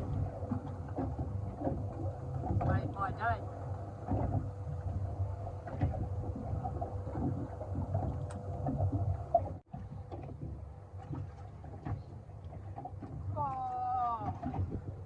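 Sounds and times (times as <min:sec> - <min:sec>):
faint steady hum: 0:00.0 - 0:15.0
water rumbling around boat: 0:00.0 - 0:15.0
wind: 0:00.0 - 0:15.0.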